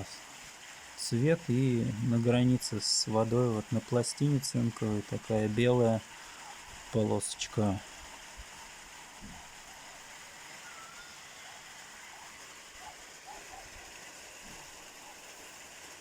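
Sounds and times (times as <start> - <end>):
faint recording hiss: 0.0 - 16.0.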